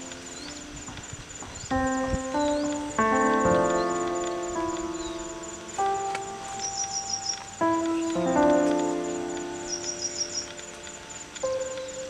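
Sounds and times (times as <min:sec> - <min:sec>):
piano chord ringing: 0:00.0 - 0:12.0.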